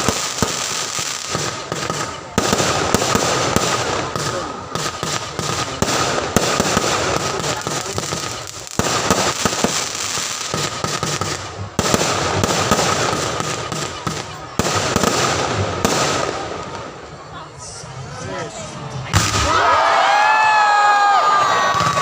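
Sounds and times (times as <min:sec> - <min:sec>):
fireworks bursting and crackling: 0:00.0 - 0:17.9, 0:18.6 - 0:22.0.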